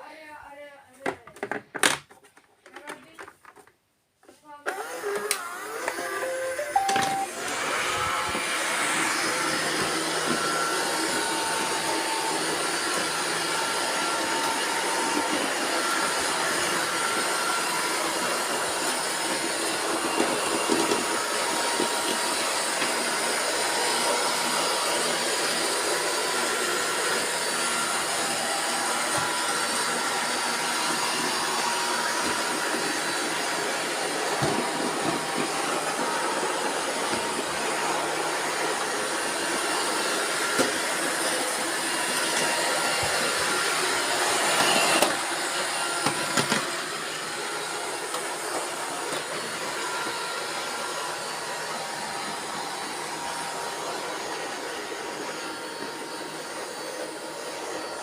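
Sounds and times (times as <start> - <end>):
robot vacuum cleaners whirring: 4.5 - 58.0.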